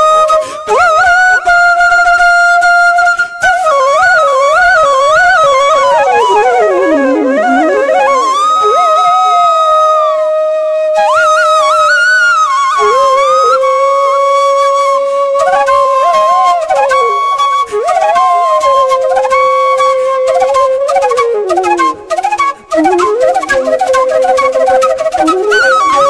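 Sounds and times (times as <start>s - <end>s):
flute playing slow melody: 4.6s - 26.0s.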